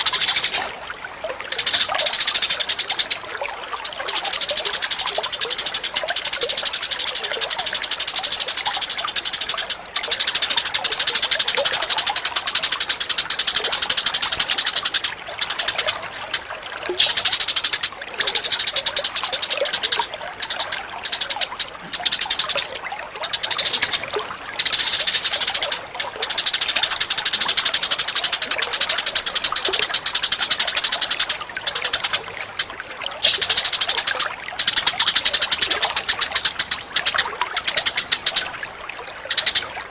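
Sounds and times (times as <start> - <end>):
bird chattering trills: 0.0 - 0.6, 1.5 - 38.5, 39.3 - 39.8.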